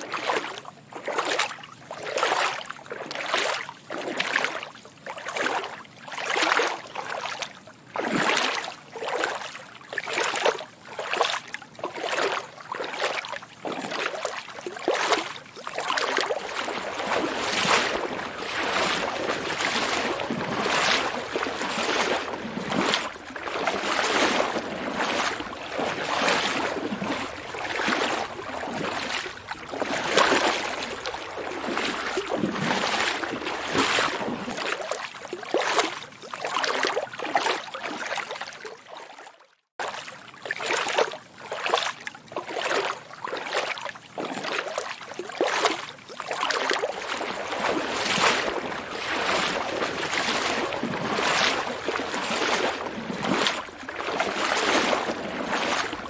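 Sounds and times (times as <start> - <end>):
swishing water: 0.0 - 56.0.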